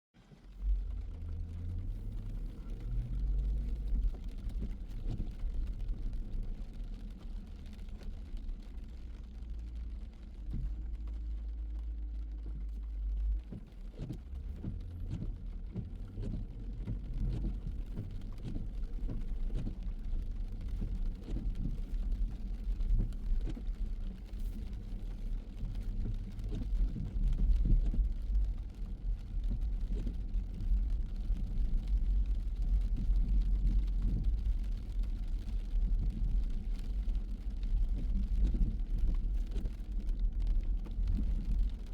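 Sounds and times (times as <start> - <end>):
car road rumble: 0.2 - 41.9
rain ticking on car: 0.2 - 41.9.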